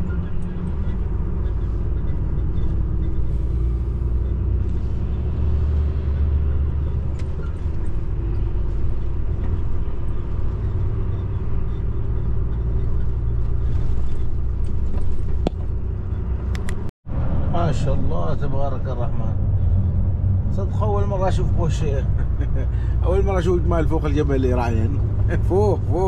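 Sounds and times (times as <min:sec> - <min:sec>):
truck diesel engine: 0:00.0 - 0:26.0
tyre and road noise: 0:00.0 - 0:26.0.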